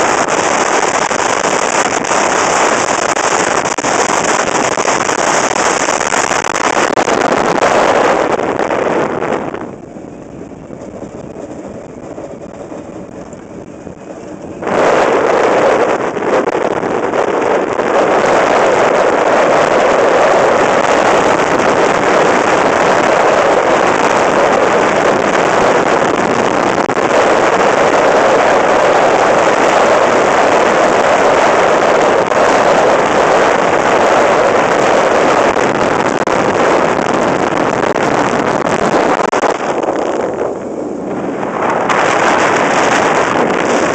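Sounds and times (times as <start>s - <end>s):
wind rushing on microphone: 0.0s - 43.9s.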